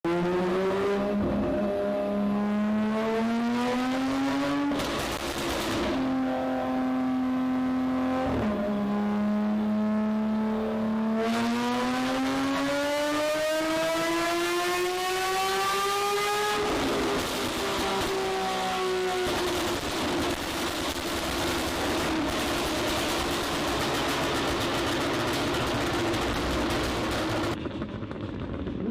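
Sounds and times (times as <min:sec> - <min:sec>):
car engine revving hard: 0:00.1 - 0:27.6.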